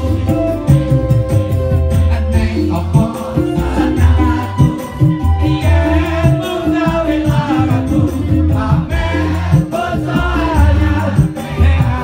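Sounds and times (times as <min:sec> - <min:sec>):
heavy bass notes: 0:00.0 - 0:12.0
live band music: 0:00.0 - 0:12.0
man singing into microphone: 0:01.9 - 0:12.0.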